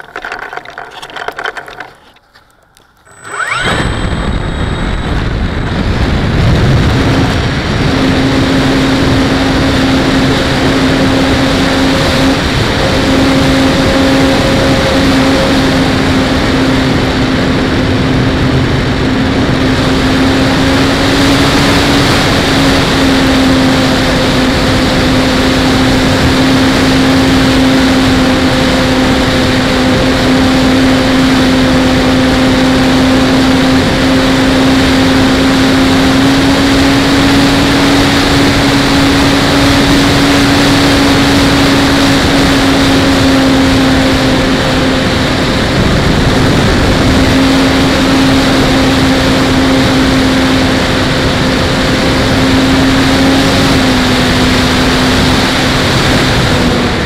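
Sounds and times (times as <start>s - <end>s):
electric motor and propeller whine: 0.0s - 57.0s
wind rushing over microphone: 3.1s - 57.0s.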